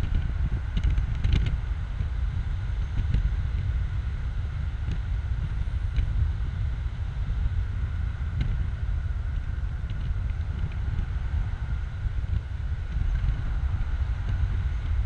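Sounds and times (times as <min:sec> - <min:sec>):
car road noise: 0:00.0 - 0:15.0
wind buffeting microphone: 0:00.0 - 0:15.0.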